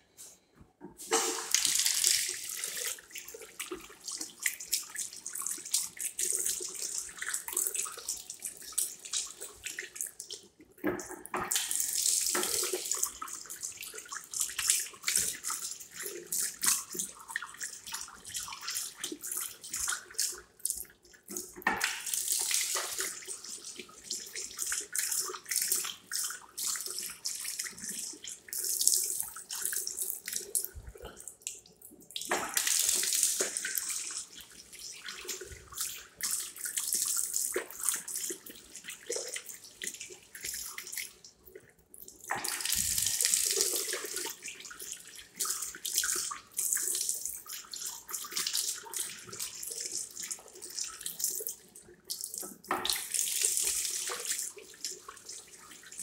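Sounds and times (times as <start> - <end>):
tap water running into sink: 0.8 - 31.4, 32.2 - 41.2, 42.2 - 51.6, 52.2 - 56.0.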